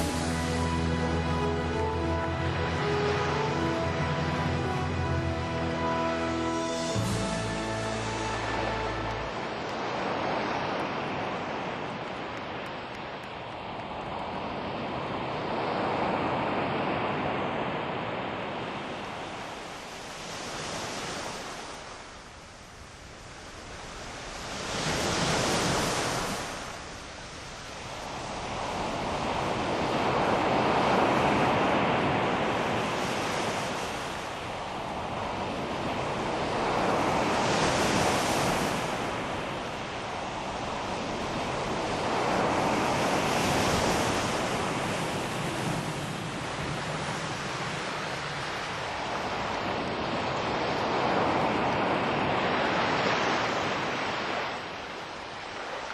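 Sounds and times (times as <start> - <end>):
ocean waves surging: 0.0 - 22.2, 23.5 - 55.9.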